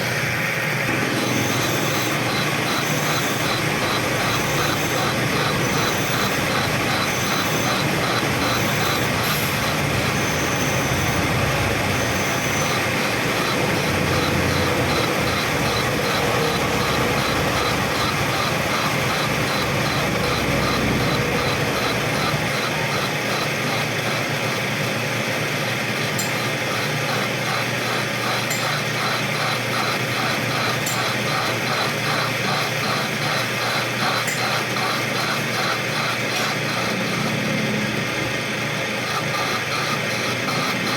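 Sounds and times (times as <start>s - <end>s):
metalworking machine chattering: 0.0s - 40.9s.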